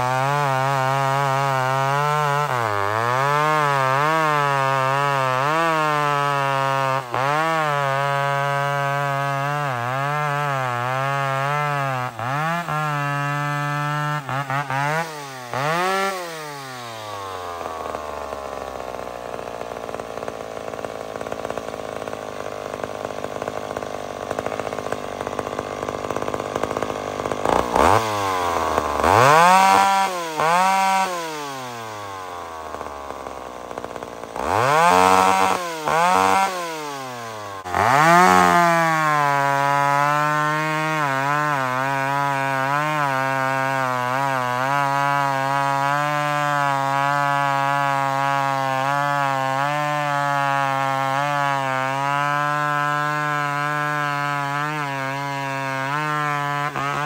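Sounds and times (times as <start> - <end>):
chain cutting through wood: 0.0 - 57.0
chainsaw engine revving: 0.0 - 57.0.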